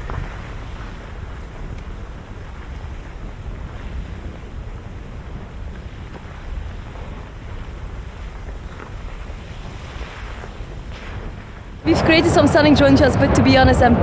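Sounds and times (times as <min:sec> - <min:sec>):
low rumble of volcanic venting: 0:00.0 - 0:14.0
wind buffeting microphone: 0:00.0 - 0:14.0.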